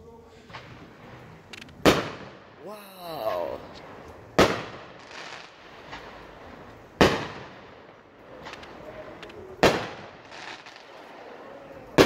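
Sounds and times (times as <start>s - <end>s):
faint fireworks pops and crackles: 0.3s - 12.0s
fireworks bang echoing: 0.4s - 12.0s.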